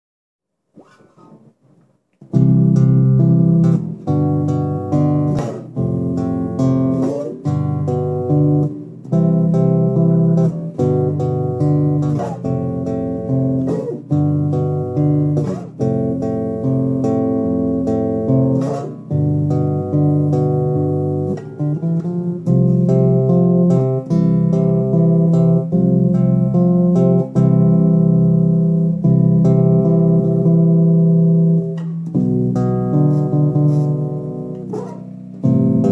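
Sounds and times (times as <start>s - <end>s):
solo bass guitar fingerstyle: 0.8s - 35.9s.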